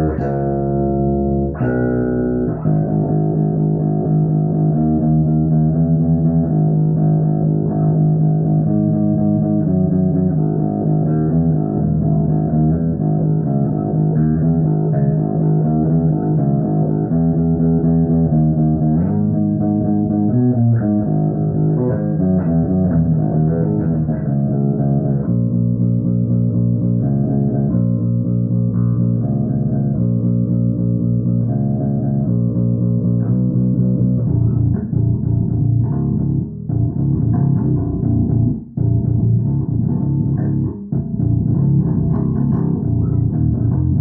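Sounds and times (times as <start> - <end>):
electric guitar notes and chords: 0.0 - 44.0.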